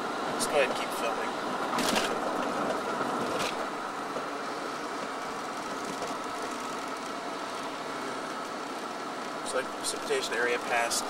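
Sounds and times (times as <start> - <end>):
tyre noise on wet road: 0.0 - 11.0.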